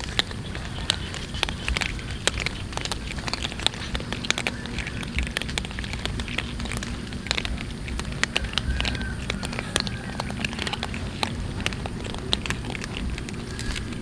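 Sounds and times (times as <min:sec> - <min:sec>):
cats crunching dry kibble: 0:00.0 - 0:14.0.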